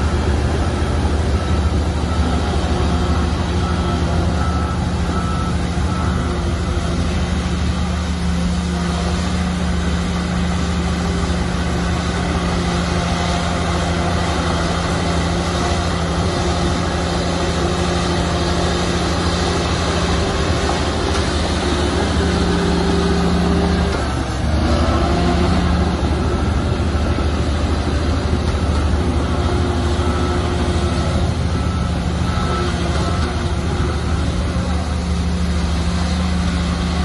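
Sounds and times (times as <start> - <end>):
bulldozer engine running: 0.0 - 37.0.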